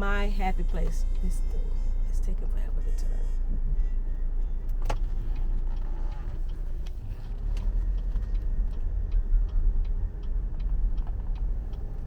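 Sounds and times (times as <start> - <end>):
car cabin rumble: 0.0 - 12.0
turn signal ticking: 0.0 - 12.0.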